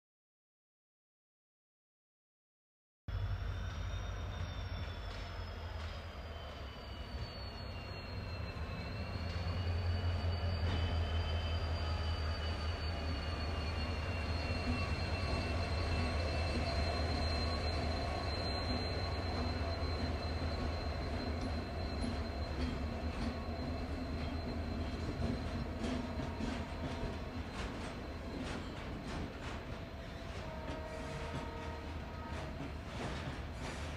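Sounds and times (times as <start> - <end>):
diesel locomotive engine hum: 3.1 - 33.9
freight train rumbling on track: 3.1 - 33.9.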